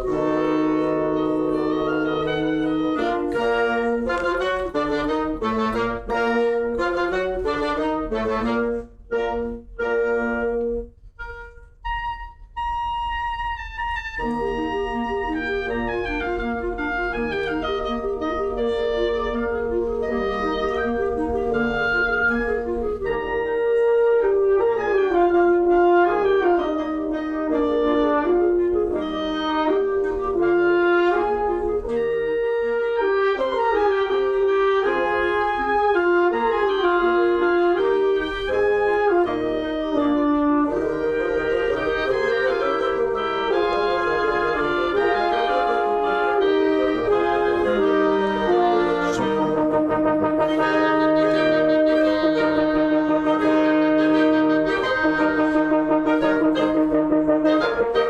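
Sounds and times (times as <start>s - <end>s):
wind band playing classical piece: 0.0s - 58.0s.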